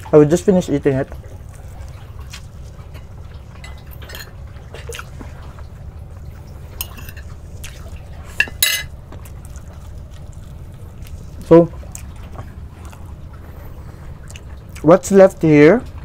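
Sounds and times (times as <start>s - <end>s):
steady low rumble: 0.0s - 16.0s
wet chewing and mouth sounds: 1.0s - 15.1s.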